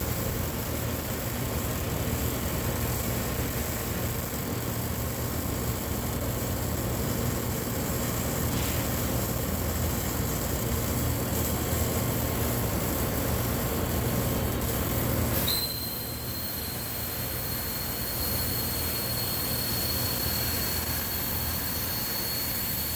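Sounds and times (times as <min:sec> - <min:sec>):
high steady whine: 0:00.0 - 0:22.9
welding arc buzzing and crackling: 0:00.0 - 0:22.9.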